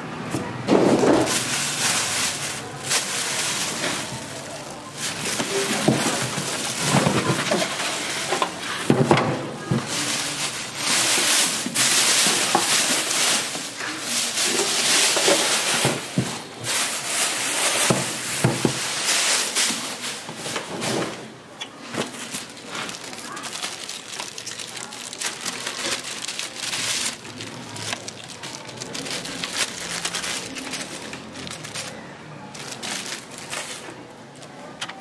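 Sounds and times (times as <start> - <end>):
plastic wrapping crinkling: 0.8 - 21.2, 21.9 - 34.5.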